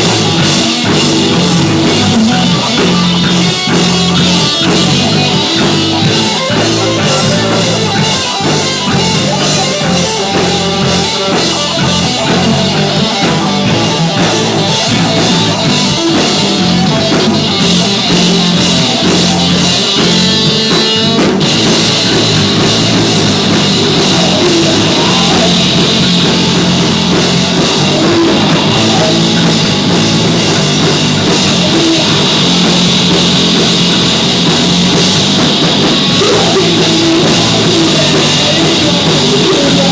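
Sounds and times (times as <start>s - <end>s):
live punk rock band playing: 0.0s - 39.9s.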